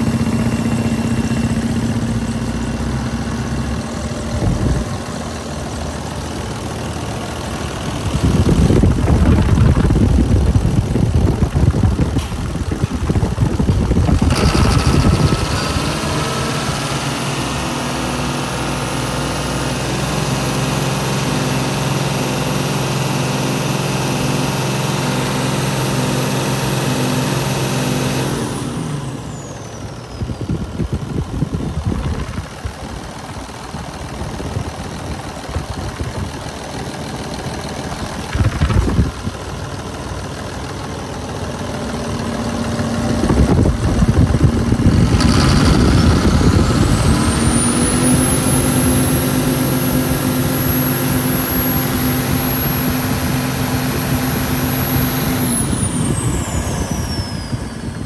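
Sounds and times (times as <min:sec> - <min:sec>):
diesel engine running with whine: 0:00.0 - 0:58.0.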